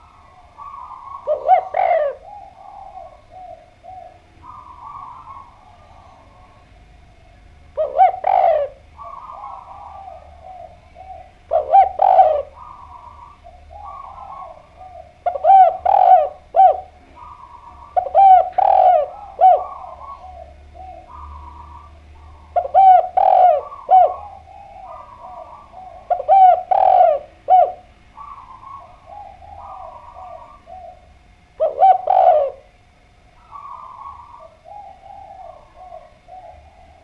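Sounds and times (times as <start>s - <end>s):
dove cooing: 0.0s - 37.0s
faint bird calls: 0.0s - 37.0s.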